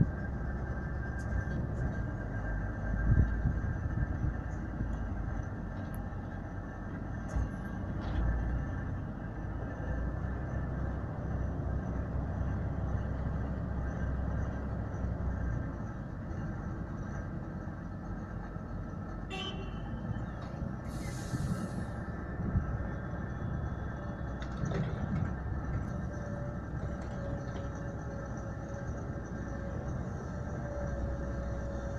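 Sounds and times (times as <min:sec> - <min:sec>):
diesel engines running: 0:00.0 - 0:31.9.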